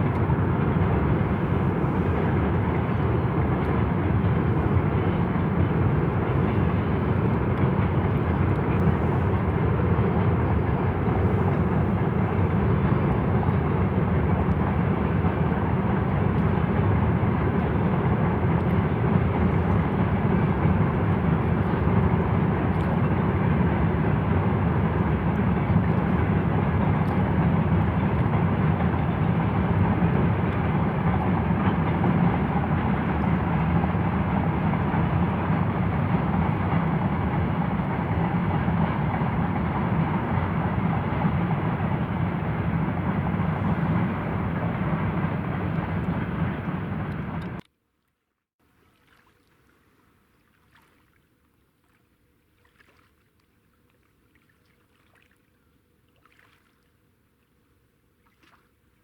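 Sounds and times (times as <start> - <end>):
freight train crossing bridge: 0.0 - 47.6.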